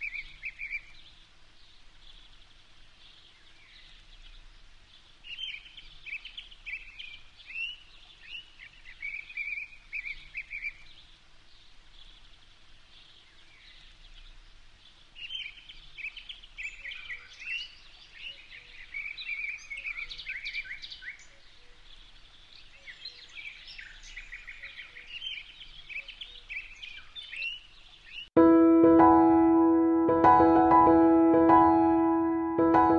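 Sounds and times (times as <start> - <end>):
faint steady hiss: 0.0 - 28.3
songbirds chirping and trilling: 0.0 - 28.4.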